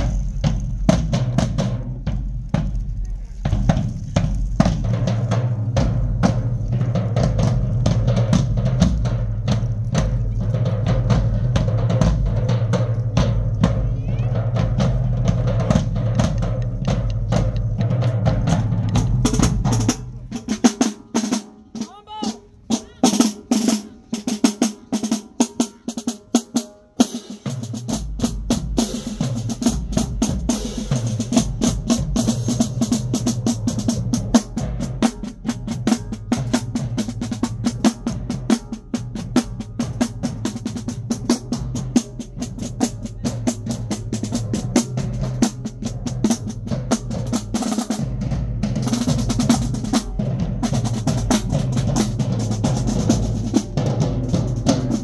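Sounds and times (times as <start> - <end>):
marching drumline playing: 0.0 - 55.0.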